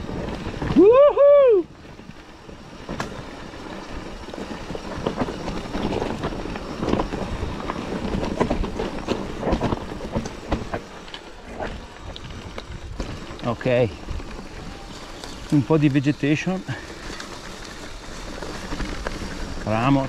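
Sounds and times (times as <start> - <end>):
bike tyres rolling over dirt: 0.0 - 20.0
bike clicks and knocks: 2.1 - 20.0.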